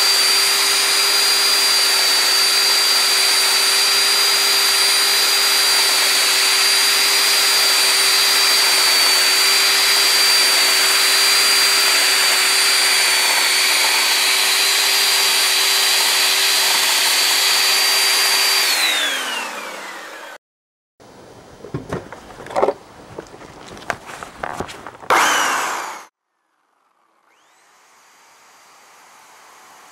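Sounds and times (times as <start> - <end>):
chainsaw cutting wood: 0.0 - 20.4, 23.7 - 26.1, 27.1 - 29.9
chainsaw engine winding down: 0.0 - 20.4, 25.1 - 29.9.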